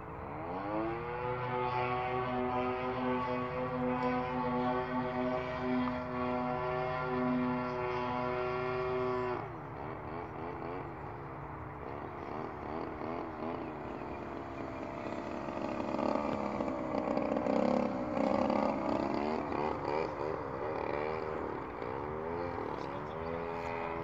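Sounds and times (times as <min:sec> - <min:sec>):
model airplane motor and propeller: 0:00.0 - 0:24.0.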